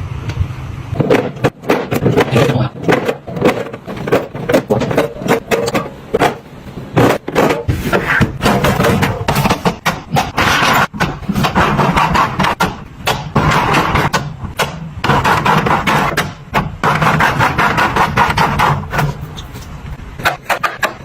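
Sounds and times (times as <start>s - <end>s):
kitchen items knocking and clattering: 1.0s - 21.0s.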